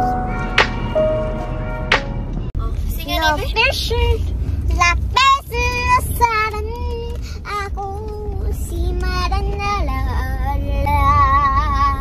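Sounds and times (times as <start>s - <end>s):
car rumble: 0.0s - 12.0s.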